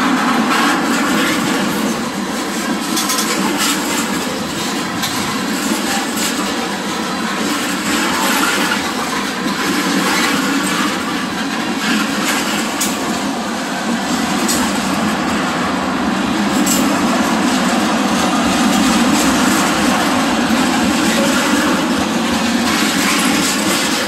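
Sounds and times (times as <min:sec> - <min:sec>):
rail clicks: 0:00.0 - 0:24.0
steel wheels rumbling on rail: 0:00.0 - 0:24.0.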